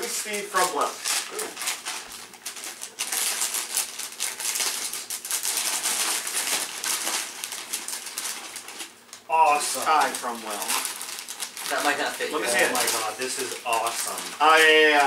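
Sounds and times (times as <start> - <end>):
wrapping paper tearing and crumpling: 0.0 - 15.0.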